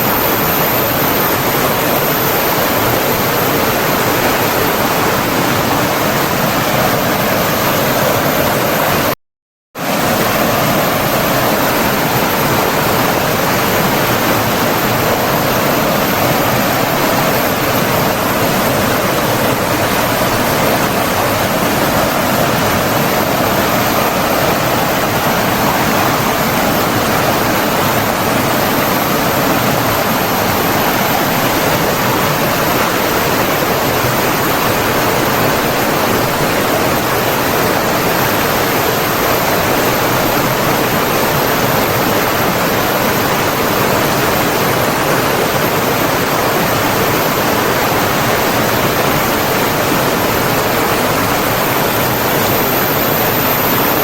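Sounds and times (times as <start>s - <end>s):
flowing water rushing: 9.8s - 54.0s.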